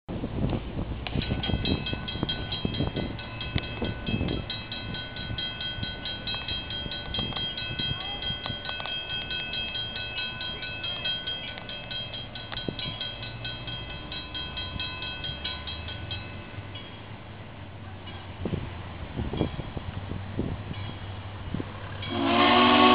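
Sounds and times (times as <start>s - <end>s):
diesel train rumble: 0.1s - 22.9s.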